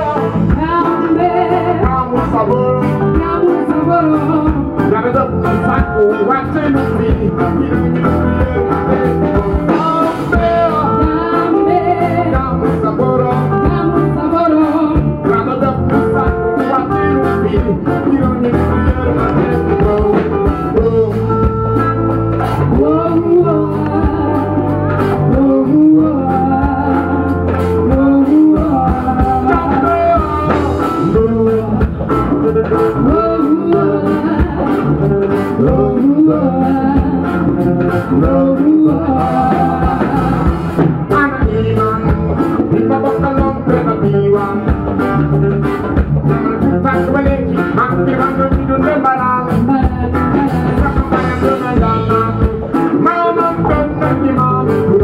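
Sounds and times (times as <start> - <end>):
acoustic and electric guitars: 0.0 - 55.0
drum kit beat: 0.0 - 55.0
person singing: 0.0 - 55.0.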